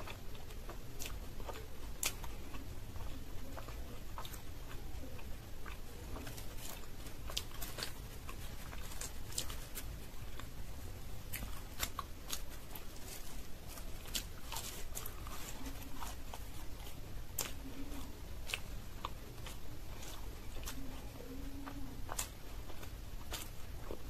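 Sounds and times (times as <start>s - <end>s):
wet mouth clicks while chewing: 0.0s - 10.6s, 11.2s - 24.0s.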